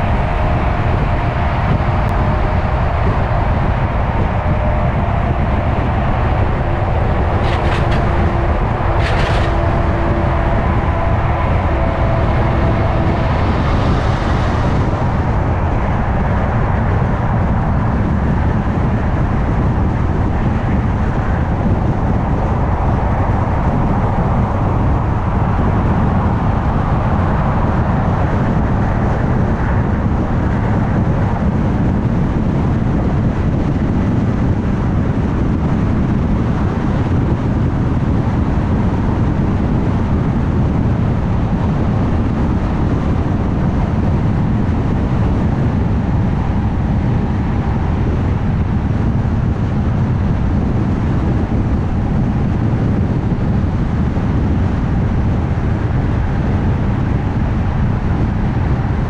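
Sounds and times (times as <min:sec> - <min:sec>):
car engine hum: 0:00.0 - 0:59.0
road and tyre noise: 0:00.0 - 0:59.0.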